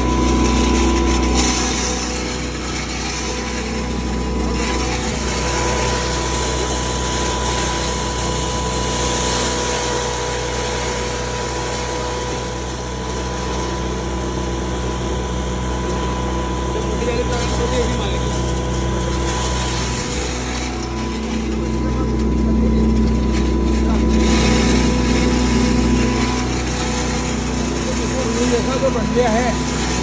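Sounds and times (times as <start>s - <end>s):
feed grinder running: 0.0s - 30.0s.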